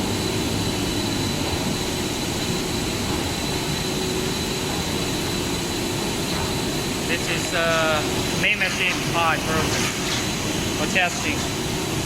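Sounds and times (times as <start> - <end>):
high-pitched whine: 0.0 - 12.0
machinery hum and hiss: 0.0 - 12.0.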